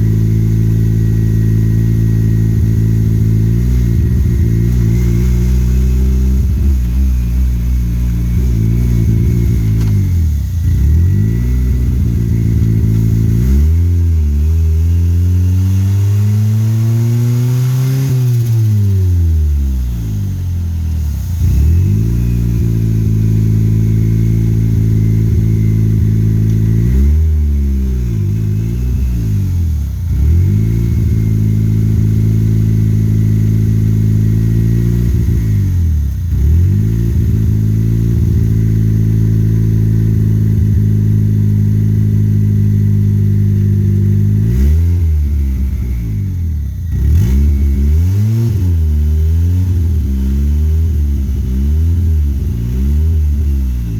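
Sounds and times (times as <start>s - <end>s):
car engine running hard: 0.0s - 53.9s.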